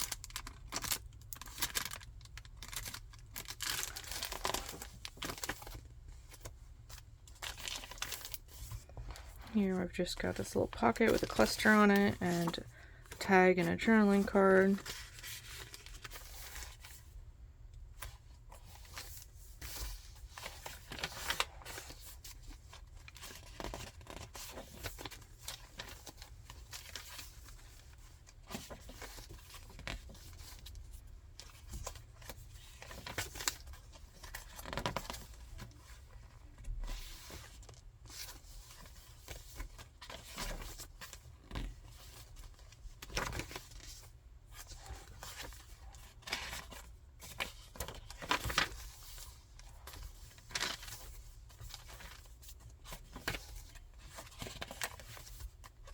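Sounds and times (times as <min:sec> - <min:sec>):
paper pages rustling: 0:00.0 - 0:17.2, 0:18.0 - 0:55.9.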